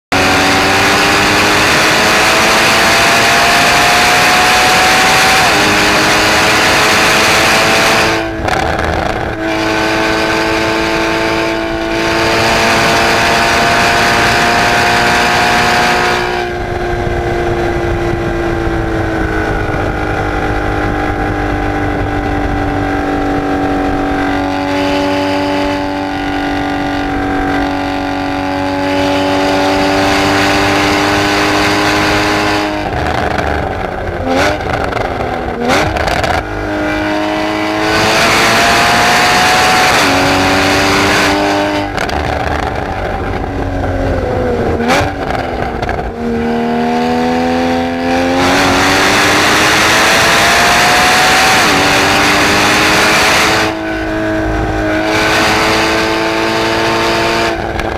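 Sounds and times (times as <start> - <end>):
car engine at high revs: 0.0 - 57.9
wind noise: 0.1 - 57.9.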